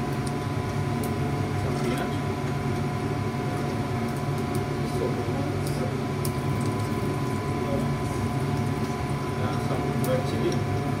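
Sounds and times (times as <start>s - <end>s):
kitchen ventilation hum: 0.0s - 11.0s.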